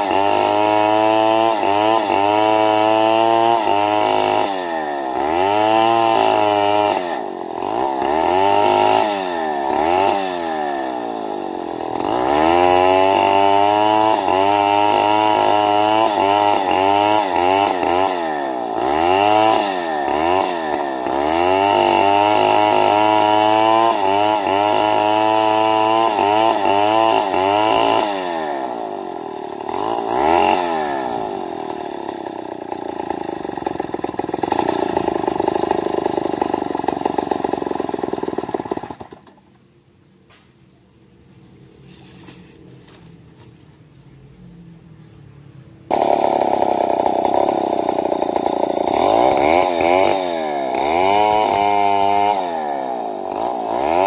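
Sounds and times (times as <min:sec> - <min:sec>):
chainsaw cutting log: 0:00.0 - 0:39.6, 0:45.9 - 0:54.0.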